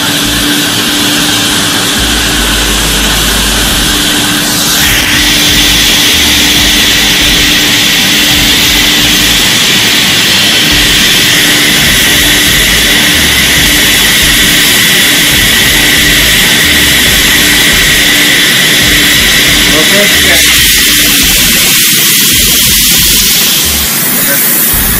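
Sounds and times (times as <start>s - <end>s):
vacuum motor whining: 0.0s - 24.9s.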